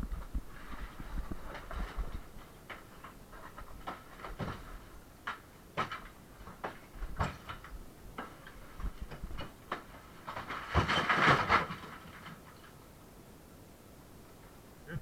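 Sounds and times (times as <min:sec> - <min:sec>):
rubble knocking and clattering: 0:00.0 - 0:12.8.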